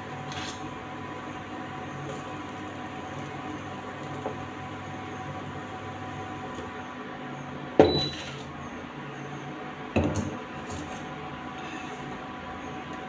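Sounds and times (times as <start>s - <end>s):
induction cooktop hum: 0.0s - 13.0s.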